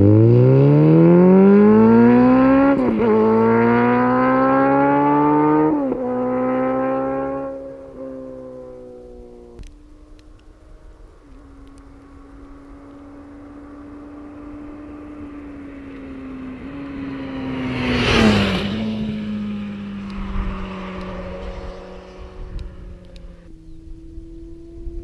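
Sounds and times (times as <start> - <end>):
motorcycle passing by: 0.0 - 9.6, 10.7 - 25.0.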